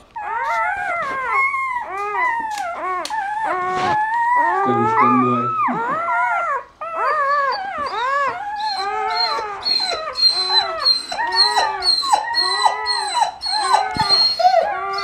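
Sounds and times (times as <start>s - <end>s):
puppies squealing whines: 0.0s - 15.0s.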